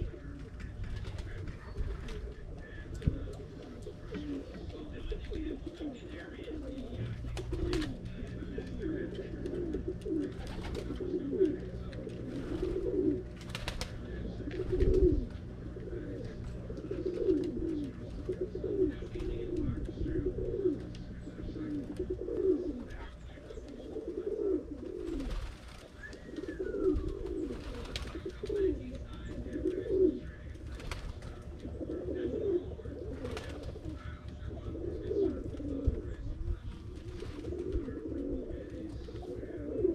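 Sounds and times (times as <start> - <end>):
pigeons cooing: 0.0 - 39.9
steady low hum: 0.0 - 39.9.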